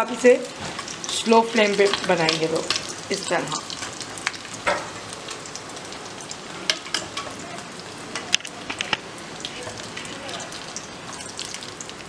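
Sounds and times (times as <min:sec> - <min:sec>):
food frying in oil: 0:00.0 - 0:12.0.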